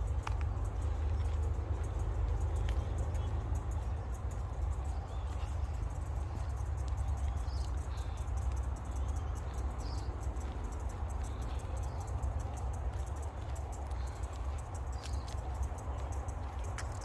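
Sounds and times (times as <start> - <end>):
faint bird chirps: 0.5 - 17.0.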